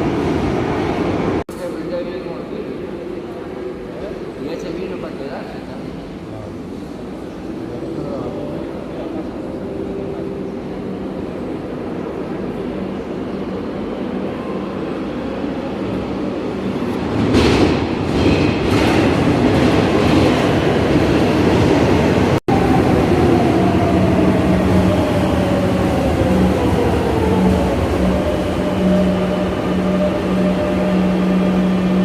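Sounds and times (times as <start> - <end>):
metro train running: 0.0 - 32.0.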